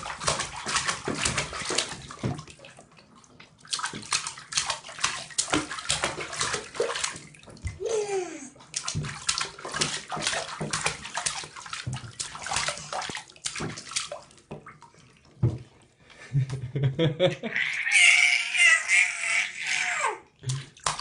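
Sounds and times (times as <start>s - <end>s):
bathwater splashing: 0.0s - 16.7s, 17.8s - 21.0s.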